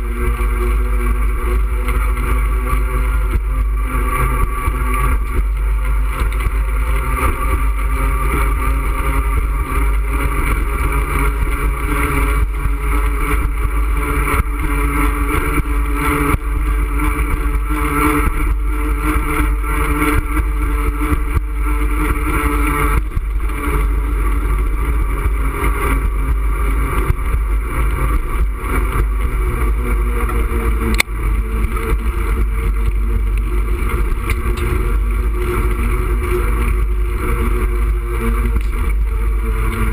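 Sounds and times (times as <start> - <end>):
car traffic drone: 0.0 - 39.9.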